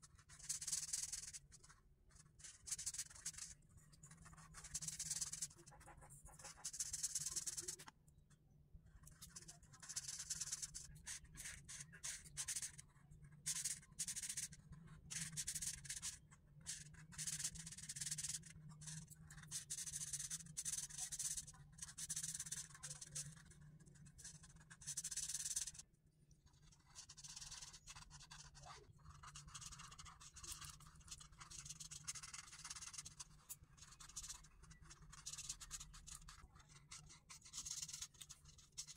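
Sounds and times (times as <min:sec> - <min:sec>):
marker scratching on paper: 0:00.1 - 0:03.5, 0:04.1 - 0:07.9, 0:09.1 - 0:12.8, 0:13.5 - 0:23.6, 0:24.2 - 0:25.8, 0:26.6 - 0:38.9.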